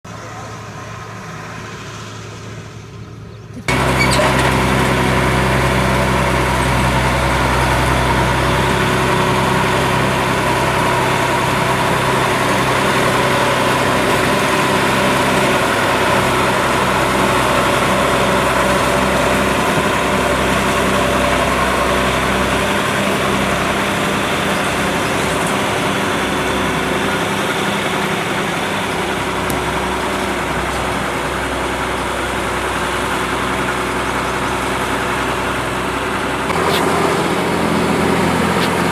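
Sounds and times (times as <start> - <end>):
combine harvester engine running: 0.1 - 38.9.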